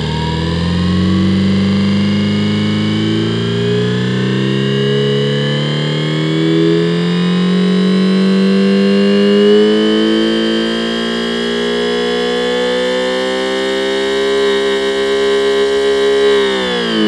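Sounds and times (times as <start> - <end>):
engine simulator revving whine: 0.0 - 17.0
power steering pump whine: 0.0 - 17.0.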